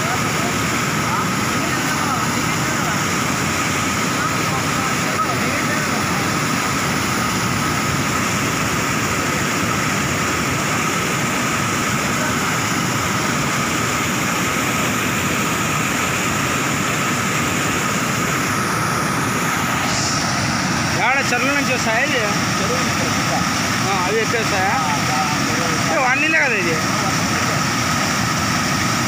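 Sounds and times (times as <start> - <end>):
water rushing over a weir: 0.0 - 29.0.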